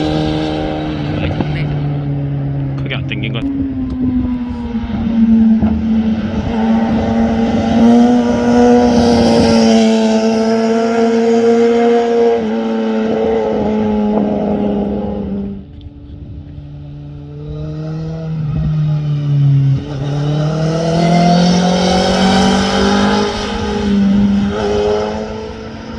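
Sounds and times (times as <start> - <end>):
sport motorcycle engine accelerating: 0.0 - 15.7, 16.8 - 25.9.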